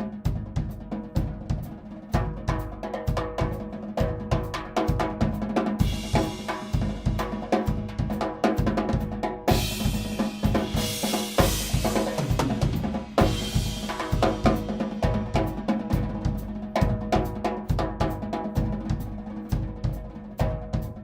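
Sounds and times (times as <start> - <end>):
bass drum and snare strokes: 0.0 - 21.0.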